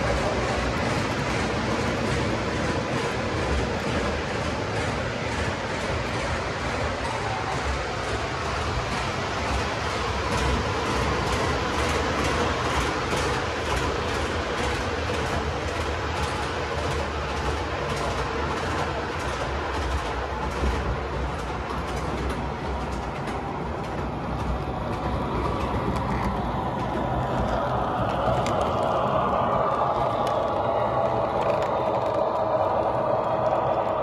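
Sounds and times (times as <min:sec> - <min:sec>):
model train rolling on track: 0:00.0 - 0:34.0
wheels clicking over rail joints: 0:00.0 - 0:34.0.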